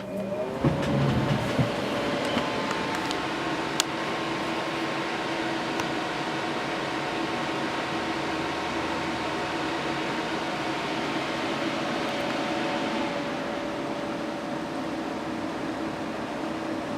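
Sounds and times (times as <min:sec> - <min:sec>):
cooling fans rushing: 0:00.0 - 0:16.9
faint whining tones: 0:00.0 - 0:16.9.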